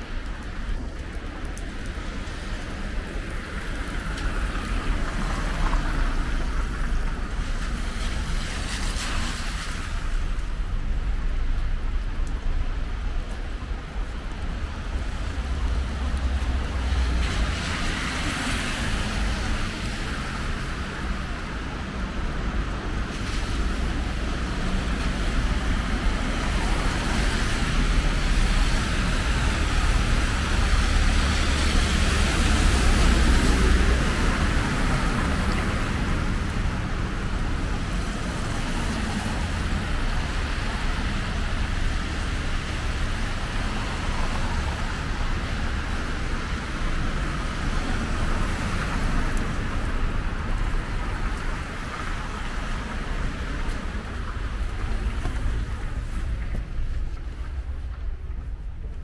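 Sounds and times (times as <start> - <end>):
low traffic rumble: 0.0 - 59.0
tyres hissing on wet road: 0.0 - 59.0.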